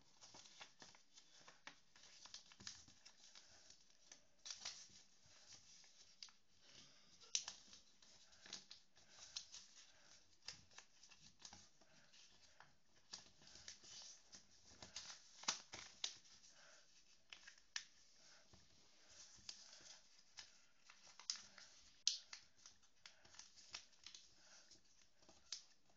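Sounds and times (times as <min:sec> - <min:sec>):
paper rustling: 0:00.0 - 0:25.9.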